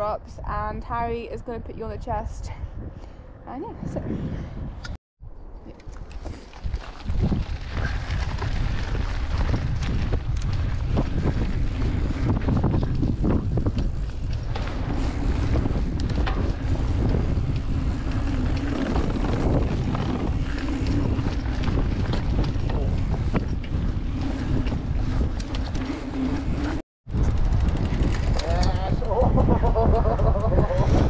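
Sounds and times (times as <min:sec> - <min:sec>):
wind buffeting microphone: 0:00.0 - 0:31.0
bike clicks and rattles: 0:05.7 - 0:31.0.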